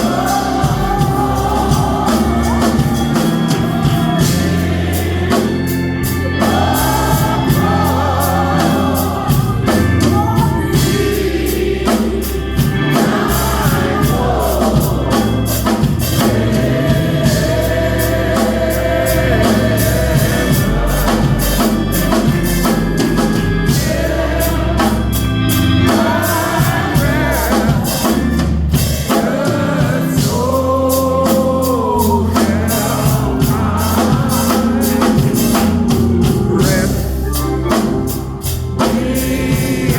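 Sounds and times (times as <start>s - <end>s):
drums: 0.0s - 39.9s
gospel singing voices: 0.0s - 39.9s
organ: 0.0s - 39.9s.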